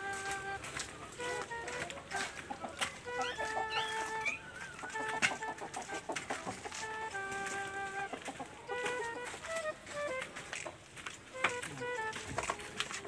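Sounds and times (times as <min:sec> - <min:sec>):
background music: 0:00.0 - 0:13.0
chickens clucking: 0:00.0 - 0:13.0.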